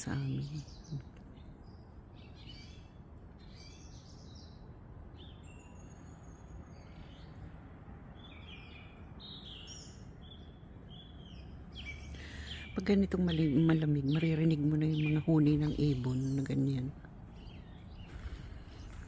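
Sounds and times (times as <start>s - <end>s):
low background hum: 0.0s - 19.0s
songbirds chirping and singing: 0.0s - 19.0s.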